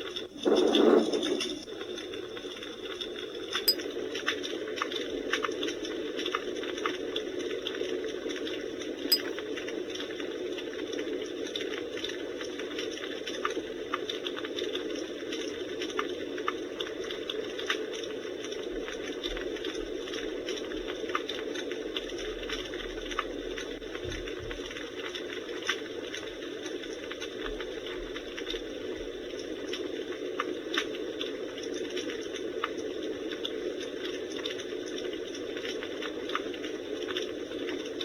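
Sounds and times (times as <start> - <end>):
simulated campfire crackle: 0.0 - 38.0.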